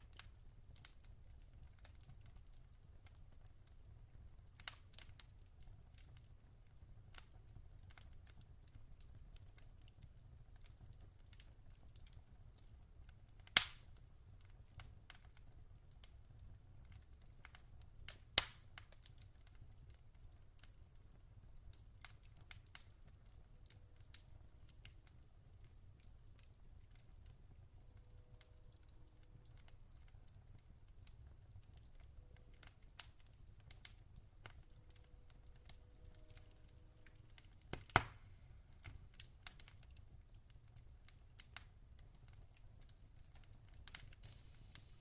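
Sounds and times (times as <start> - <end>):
fire popping: 0.0 - 45.0
log fire crackling: 0.0 - 45.0.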